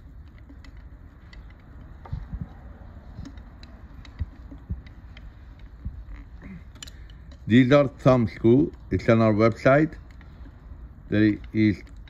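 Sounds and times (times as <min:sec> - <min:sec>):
small metal clicks and taps: 0:00.0 - 0:12.0.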